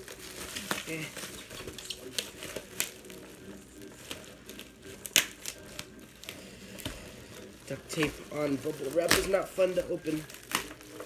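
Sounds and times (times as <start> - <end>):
bubble wrap crinkling and snapping: 0.0 - 11.0.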